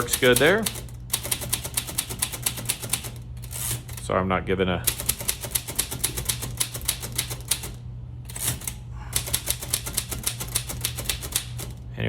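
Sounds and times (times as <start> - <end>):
manual typewriter keystrokes: 0.0 - 4.1, 4.8 - 11.8.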